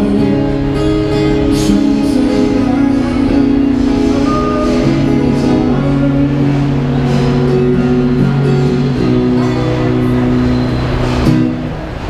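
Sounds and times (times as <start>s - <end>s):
amplified acoustic guitar chords: 0.0s - 12.0s.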